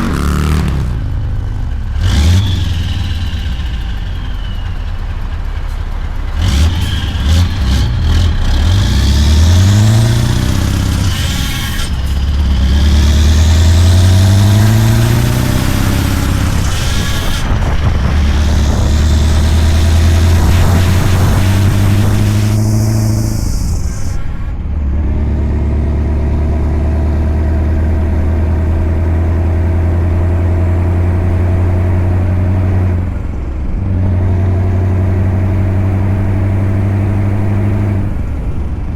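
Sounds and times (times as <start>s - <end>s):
truck engine shifting gears: 0.0s - 38.9s.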